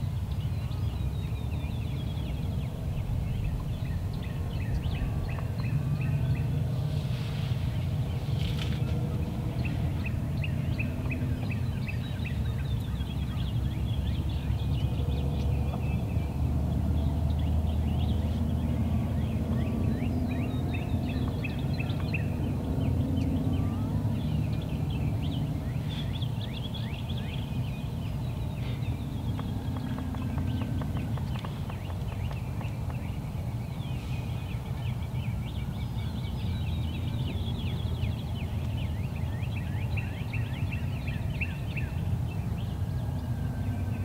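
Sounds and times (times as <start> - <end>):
steady low rumble: 0.0 - 44.0.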